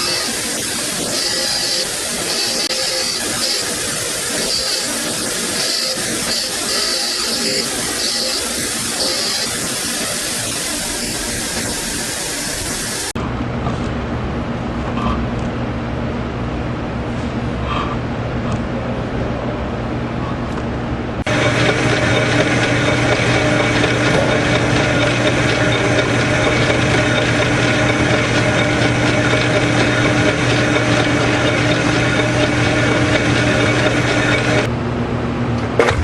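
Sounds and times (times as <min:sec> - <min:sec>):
shop machine humming: 0:00.0 - 0:36.0.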